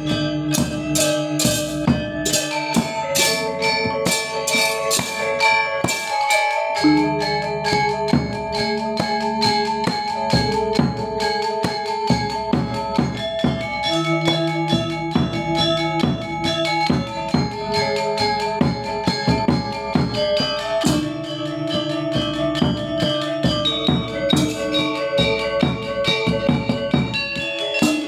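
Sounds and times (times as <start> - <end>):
metallophone notes: 0.0 - 28.0.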